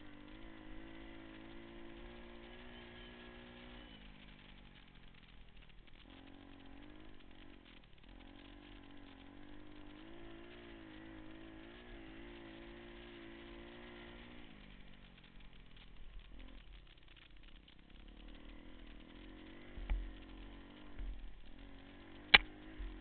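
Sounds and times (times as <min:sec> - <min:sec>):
pit bike engine running: 0:00.0 - 0:23.0.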